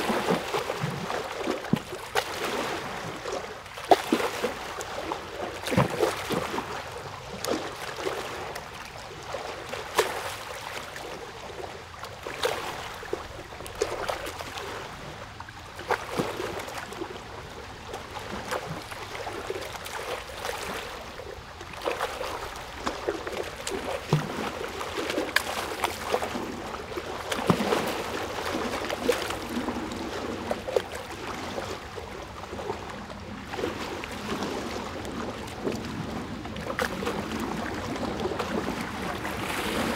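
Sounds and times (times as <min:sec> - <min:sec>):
stream babbling and splashing: 0:00.0 - 0:39.9.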